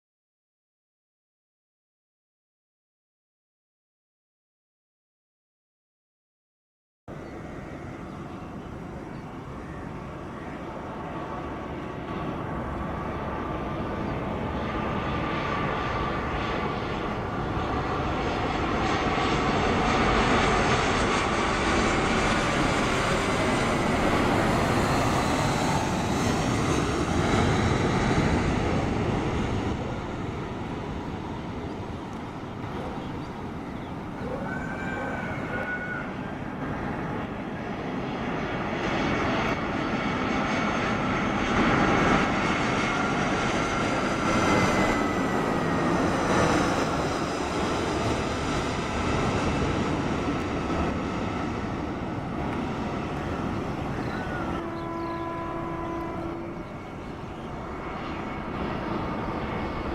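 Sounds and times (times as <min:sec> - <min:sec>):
airliner engines running: 0:07.1 - 0:59.9.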